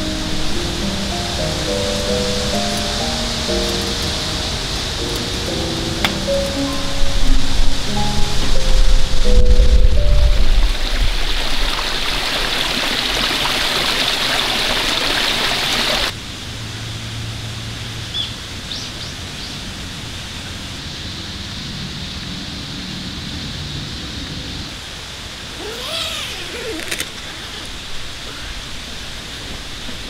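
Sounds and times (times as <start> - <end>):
water rushing hiss: 0.0 - 19.0, 19.6 - 30.0.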